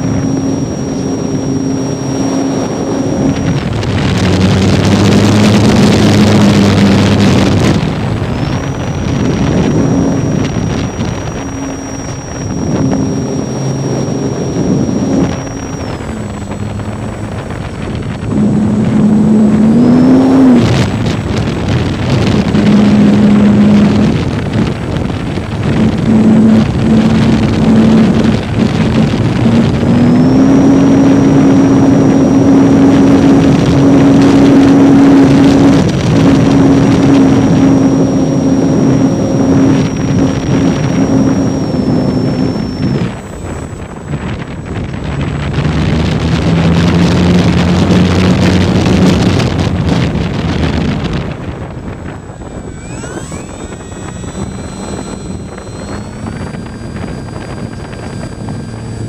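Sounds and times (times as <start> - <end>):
model plane motor whine: 0.0 - 59.0
wind rush on microphone: 0.0 - 59.0.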